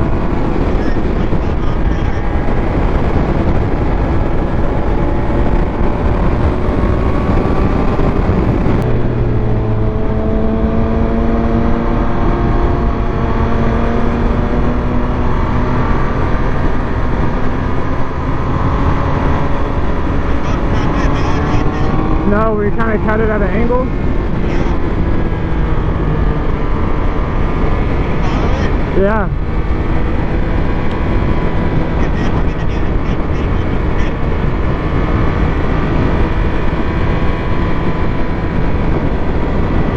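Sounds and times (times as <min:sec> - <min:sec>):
motorcycle engine while riding: 0:00.0 - 0:39.9
wind and road noise: 0:00.0 - 0:39.9.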